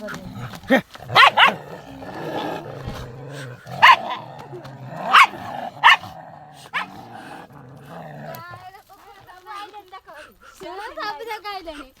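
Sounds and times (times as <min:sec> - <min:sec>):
dog growling: 0:00.0 - 0:12.0
dogs barking and snarling: 0:00.0 - 0:12.0.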